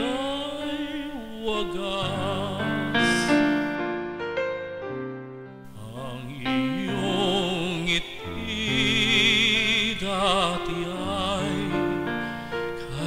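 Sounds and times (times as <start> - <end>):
man singing operatically: 0.0 - 3.5, 5.7 - 13.0
piano accompaniment: 0.0 - 13.0.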